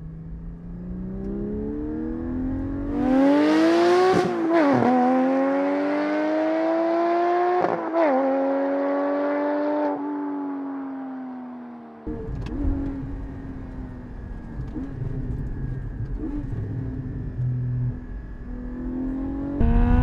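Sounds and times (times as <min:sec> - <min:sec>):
car engine accelerating hard: 0:00.6 - 0:10.0, 0:12.1 - 0:20.0.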